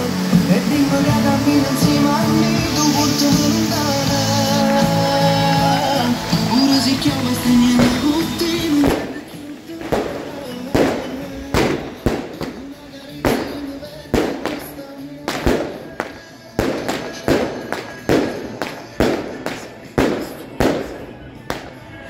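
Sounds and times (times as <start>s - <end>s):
fireworks bangs echoing: 0.0s - 22.0s
song playing: 0.0s - 22.0s.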